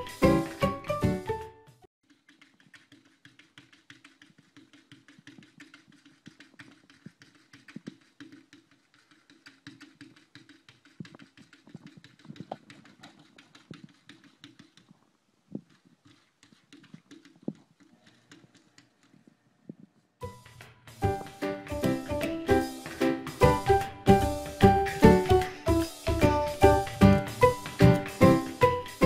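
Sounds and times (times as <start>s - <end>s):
cat paws tapping on window glass: 2.0s - 29.0s.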